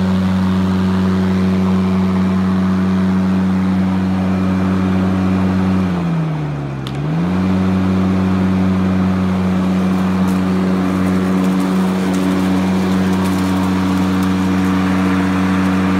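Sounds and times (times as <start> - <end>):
electric lawn mower running: 0.0 - 15.9.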